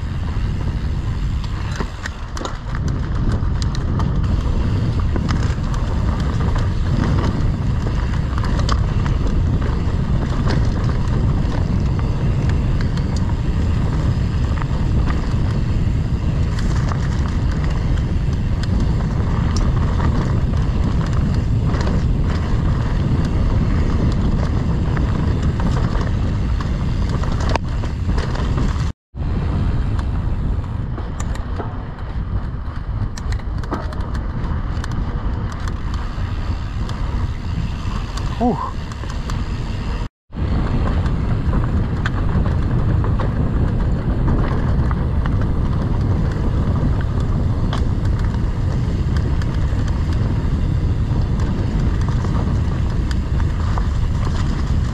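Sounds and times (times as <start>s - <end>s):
bike clicks and rattles: 0.0s - 54.9s
bike tyre rumble: 0.0s - 54.9s
wind rush on microphone: 0.0s - 54.9s.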